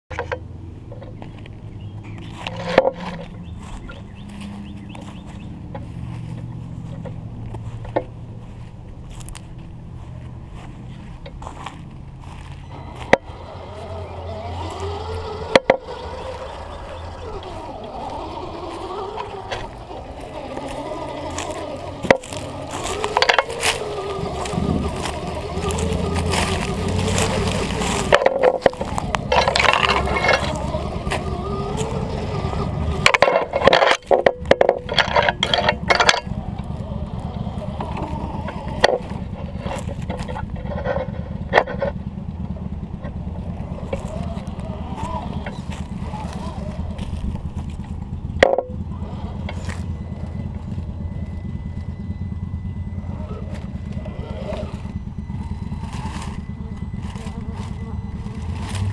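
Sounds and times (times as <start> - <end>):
steady low rumble: 0.5 - 58.9
dry leaves crackling under tyres: 0.9 - 58.9
rc car motor whining: 1.1 - 58.9.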